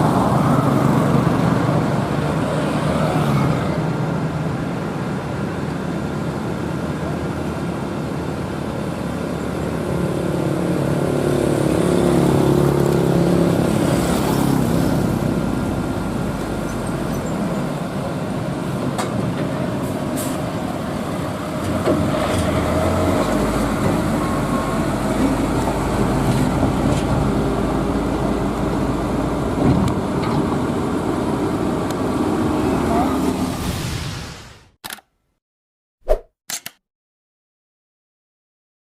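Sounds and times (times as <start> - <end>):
diesel truck engines labouring: 0.0 - 33.6.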